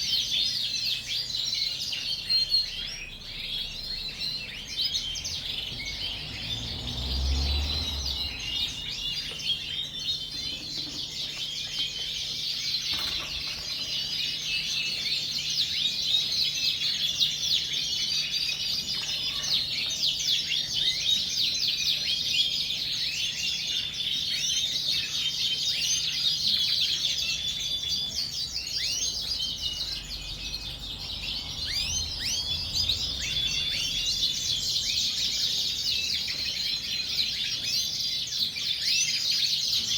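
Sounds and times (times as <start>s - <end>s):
canaries chirping and singing: 0.0s - 39.9s.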